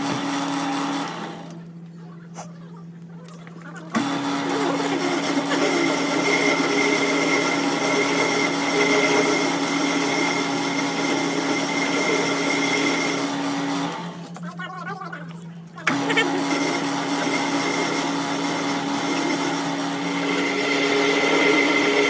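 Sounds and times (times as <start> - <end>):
power tool grinding metal: 0.0 - 1.7, 3.9 - 14.6, 15.8 - 22.0.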